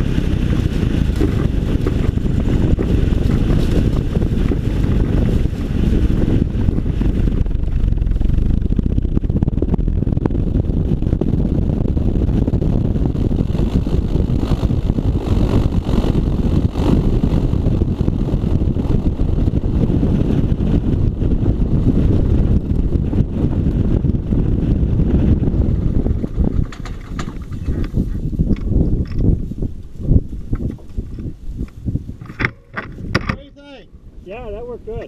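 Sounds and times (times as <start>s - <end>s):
propeller plane engine running: 0.0s - 35.0s
wind noise on microphone: 0.0s - 35.0s.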